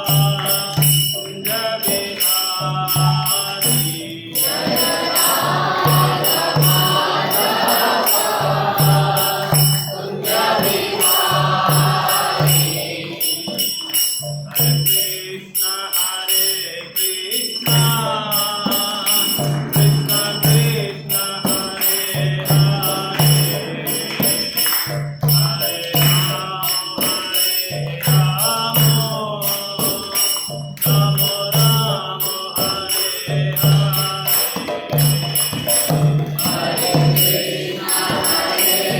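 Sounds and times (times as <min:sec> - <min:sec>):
drum beating: 0:00.0 - 0:15.5, 0:17.5 - 0:38.9
voices chanting: 0:00.0 - 0:30.2, 0:31.1 - 0:38.9
hand cymbals ringing: 0:00.0 - 0:38.9.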